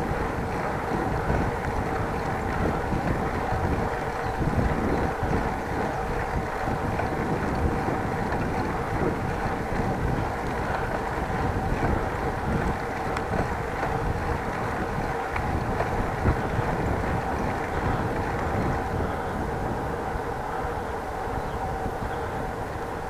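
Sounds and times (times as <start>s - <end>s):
faint steady hum: 0.0s - 23.0s
wind buffeting microphone: 0.0s - 23.0s.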